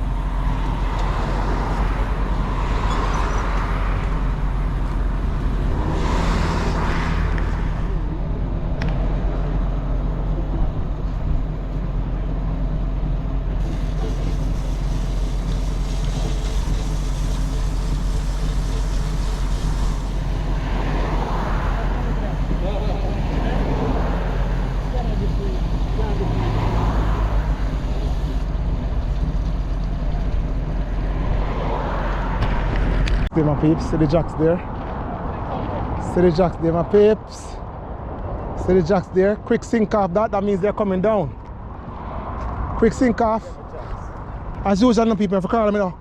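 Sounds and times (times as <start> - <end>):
road traffic noise: 0.0 - 46.0
vehicles passing: 0.0 - 46.0.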